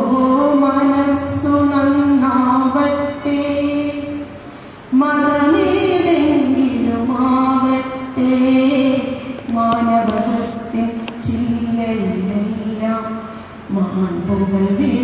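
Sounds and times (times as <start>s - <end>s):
woman singing: 0.0s - 4.2s, 4.9s - 15.0s.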